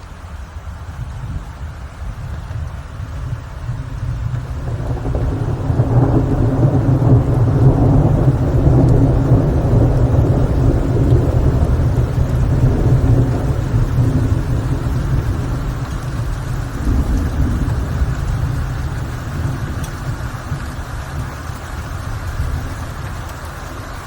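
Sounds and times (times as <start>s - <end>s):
low roll of thunder: 0.0s - 24.0s
rain: 0.0s - 24.0s.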